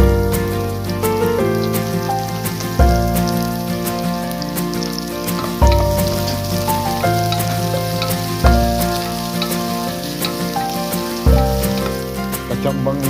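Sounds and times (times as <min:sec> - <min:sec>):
food sizzling in a hot pan: 0:00.0 - 0:12.6
background music chords: 0:00.0 - 0:13.0.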